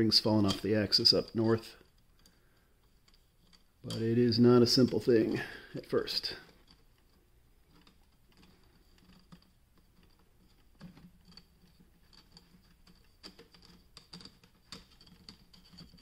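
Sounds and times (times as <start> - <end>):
plastic rings clicking and scraping: 0.0 - 16.0.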